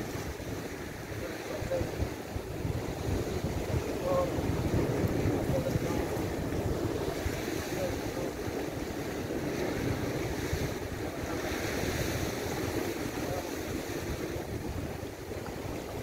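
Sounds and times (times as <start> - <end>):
sea surf breaking on rocks: 0.0 - 16.0
wind buffeting microphone: 0.0 - 16.0.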